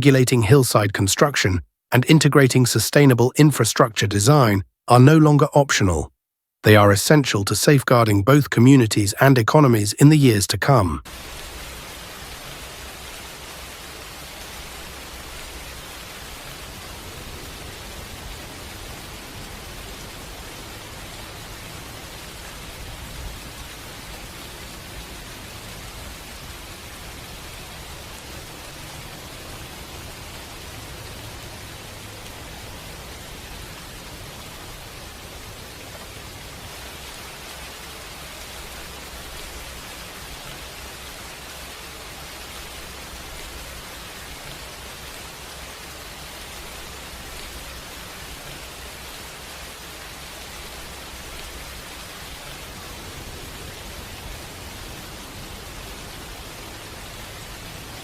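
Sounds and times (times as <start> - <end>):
rushing water hiss: 11.1 - 58.0.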